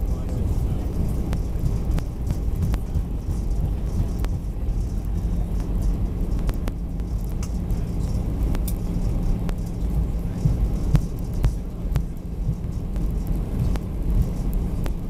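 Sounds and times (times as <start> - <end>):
aircraft engine and wheel rumble: 0.0 - 15.0.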